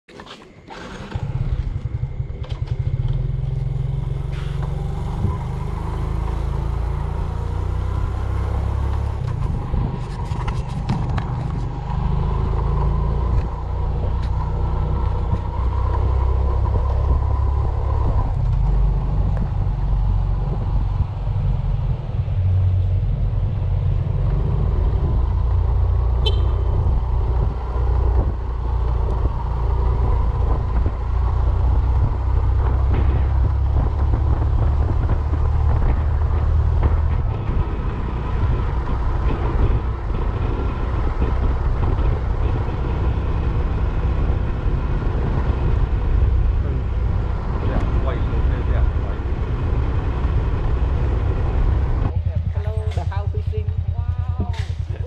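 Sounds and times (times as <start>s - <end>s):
vehicle engine low rumble: 0.2s - 55.0s.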